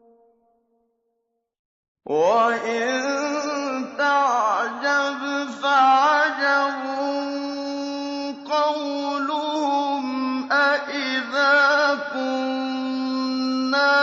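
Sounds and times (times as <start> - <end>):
man chanting melodically: 2.1 - 14.0.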